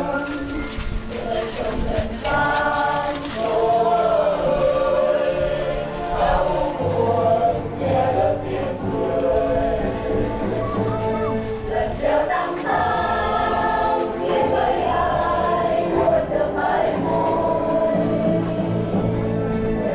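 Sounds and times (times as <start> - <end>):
choir singing a hymn: 0.0 - 19.9.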